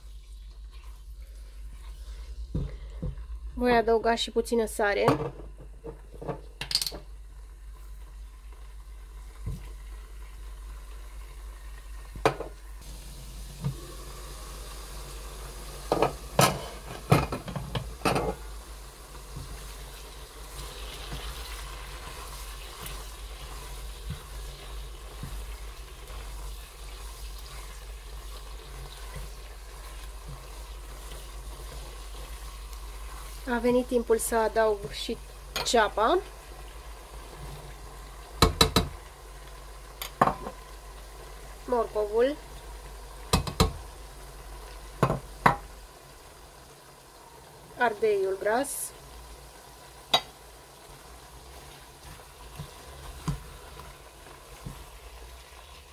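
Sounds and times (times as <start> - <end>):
chicken sizzling in hot oil: 0.0 - 5.0, 6.0 - 55.9.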